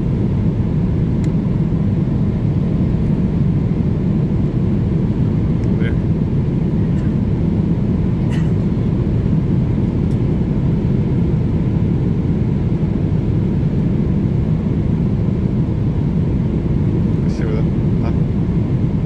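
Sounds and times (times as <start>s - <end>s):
airliner cabin roar: 0.0s - 19.0s.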